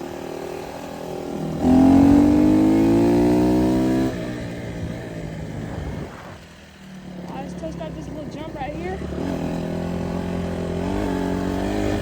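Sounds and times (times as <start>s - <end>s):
dirt bike engine accelerating: 0.0s - 12.0s.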